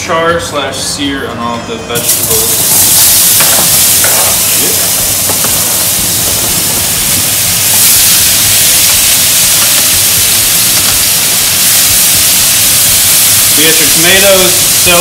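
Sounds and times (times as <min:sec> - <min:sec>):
vegetables sizzling in frying pan: 0:02.0 - 0:15.0.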